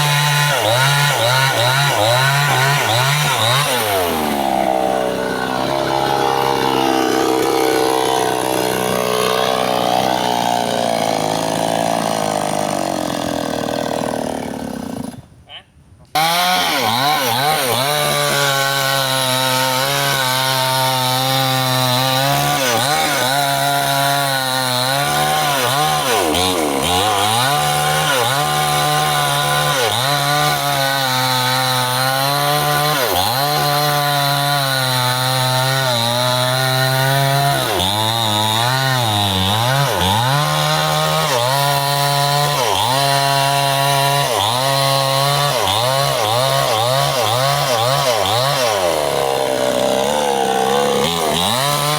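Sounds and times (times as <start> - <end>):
chainsaw cutting wood: 0.0 - 15.4, 16.1 - 51.9.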